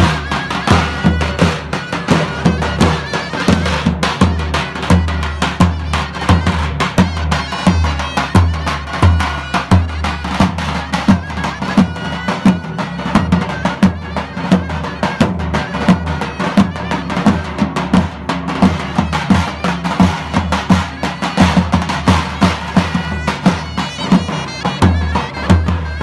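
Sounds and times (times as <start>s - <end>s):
shrill reed pipe melody: 0.0s - 26.0s.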